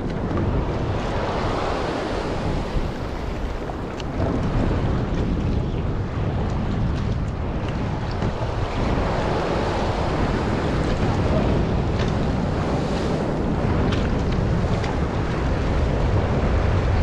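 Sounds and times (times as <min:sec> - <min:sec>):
choppy sea water: 0:00.0 - 0:17.0
wind buffeting microphone: 0:00.0 - 0:17.0.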